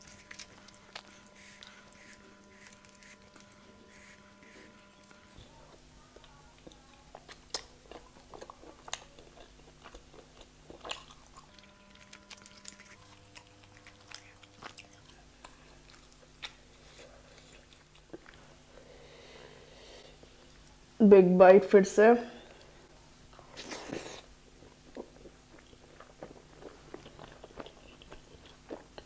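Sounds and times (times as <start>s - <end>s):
biting and chewing: 0.0s - 18.6s, 23.3s - 29.0s.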